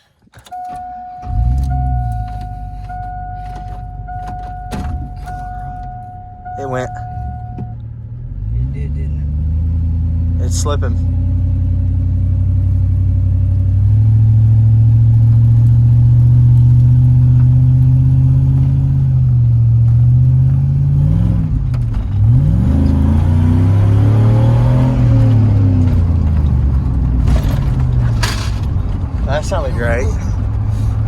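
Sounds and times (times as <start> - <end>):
truck engine revving under load: 0.9 - 31.0.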